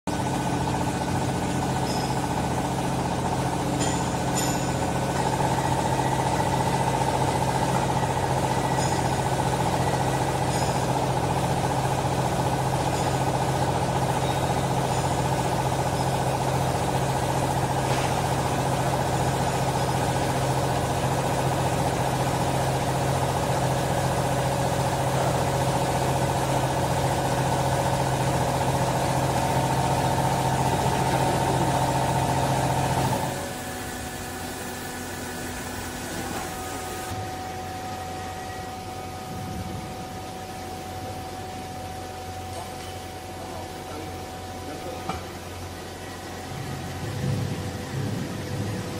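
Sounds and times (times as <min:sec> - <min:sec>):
high-pitched whine: 0:00.1 - 0:48.9
hydraulic pump motor humming: 0:00.1 - 0:48.9.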